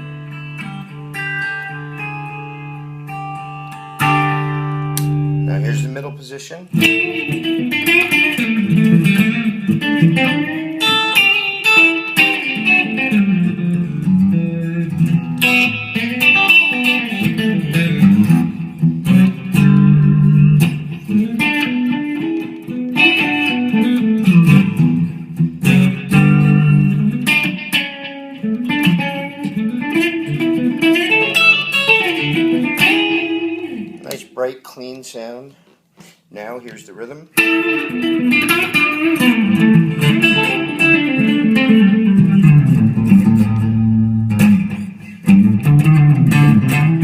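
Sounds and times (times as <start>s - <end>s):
clean electric guitar: 0.0s - 34.7s, 36.0s - 47.0s.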